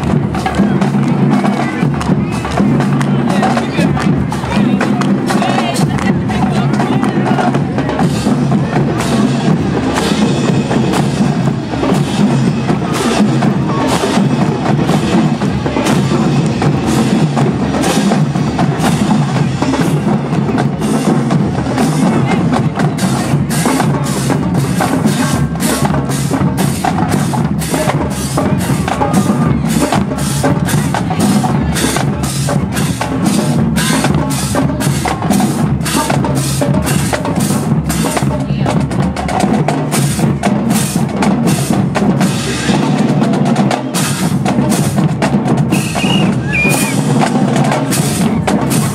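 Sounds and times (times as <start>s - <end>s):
marching drums cadence: 0.0s - 48.9s.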